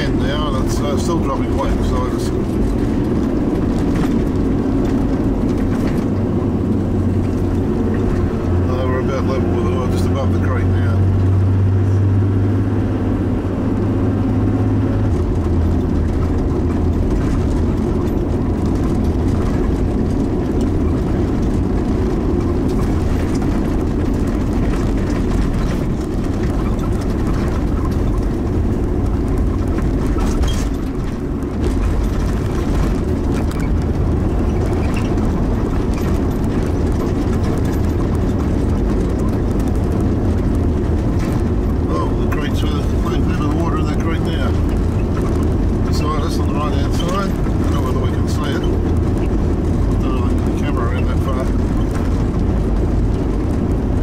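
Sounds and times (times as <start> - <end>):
car engine and tyre drone: 0.0 - 54.0.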